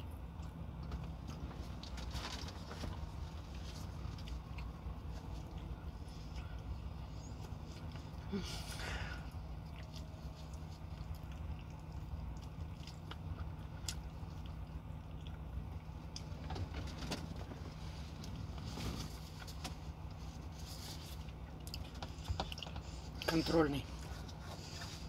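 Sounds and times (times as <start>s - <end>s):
chewing: 0.0s - 25.0s
low hum inside a truck cab: 0.0s - 25.0s.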